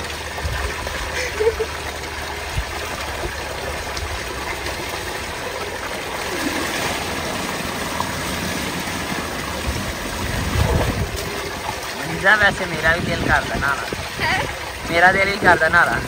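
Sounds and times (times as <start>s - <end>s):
water gushing into tank: 0.0s - 16.0s.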